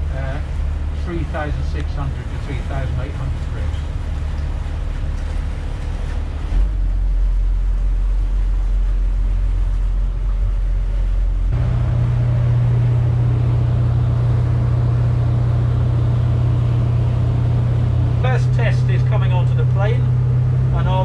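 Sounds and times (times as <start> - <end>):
boat engine hum: 0.0 - 21.0
water rushing from wake: 0.0 - 21.0.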